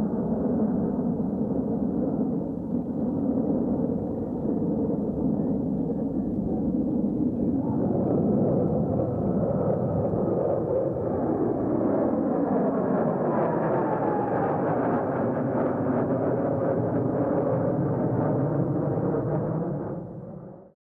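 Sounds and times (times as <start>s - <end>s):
faint falling jet whine: 0.0s - 20.5s
jet aircraft rumbling past: 0.0s - 20.7s.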